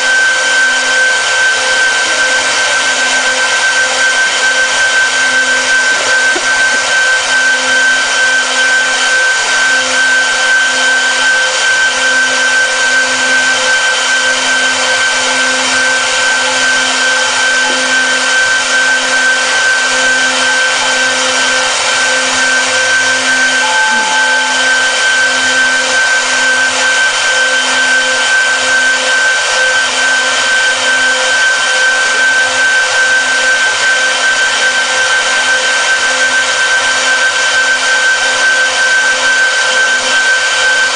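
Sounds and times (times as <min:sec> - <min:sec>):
router spindles high-pitched whine: 0:00.0 - 0:40.9.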